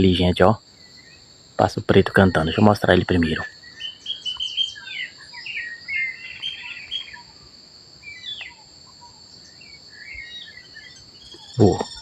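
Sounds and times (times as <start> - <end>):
blackbird singing: 0.0 - 12.0
high insect drone: 0.0 - 12.0.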